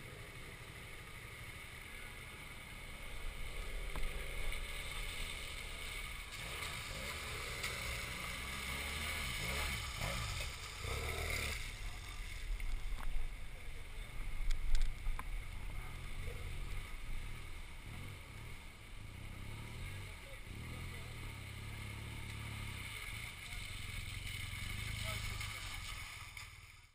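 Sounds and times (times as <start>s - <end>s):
motorcycle engines at low revs: 0.0s - 26.9s.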